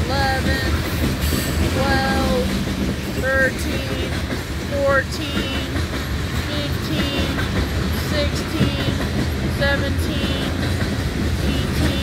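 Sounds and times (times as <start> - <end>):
coal train rumbling past: 0.0 - 12.0.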